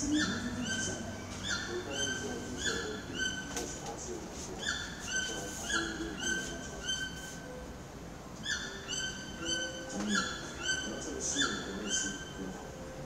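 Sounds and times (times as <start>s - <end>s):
bird calling: 0.0s - 7.8s, 8.4s - 13.0s.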